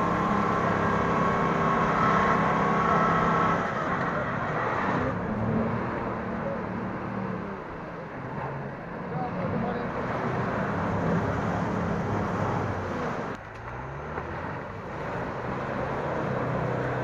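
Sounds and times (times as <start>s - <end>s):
suv engine under load: 0.0s - 17.0s.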